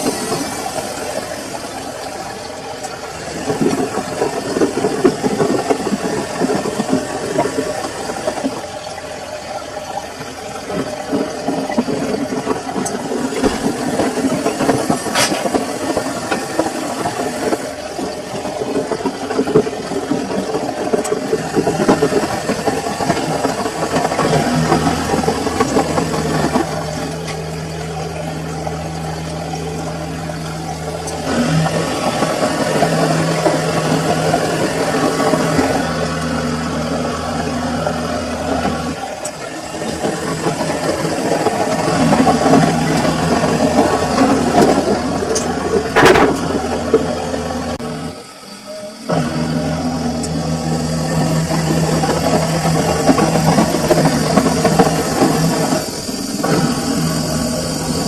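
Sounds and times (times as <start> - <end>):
low motor hum: 0.0 - 58.0
washing machine churning and rattling: 0.0 - 58.0.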